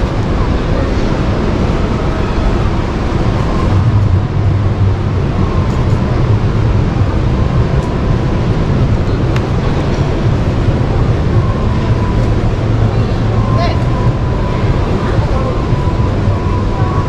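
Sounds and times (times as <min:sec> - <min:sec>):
exhibition hall low rumble: 0:00.0 - 0:17.0.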